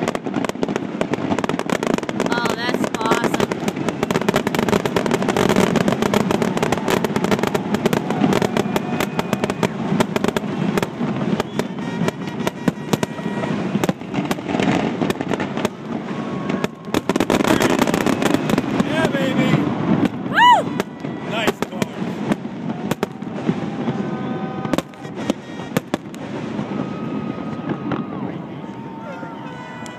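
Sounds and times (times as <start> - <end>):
fireworks bursting and crackling: 0.0 - 29.9.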